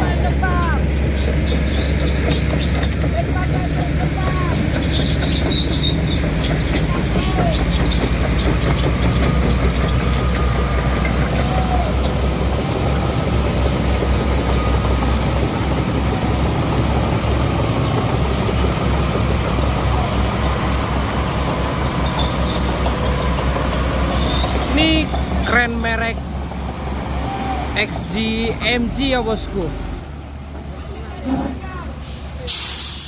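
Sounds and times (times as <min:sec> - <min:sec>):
heavy diesel machinery rumbling: 0:00.0 - 0:33.0.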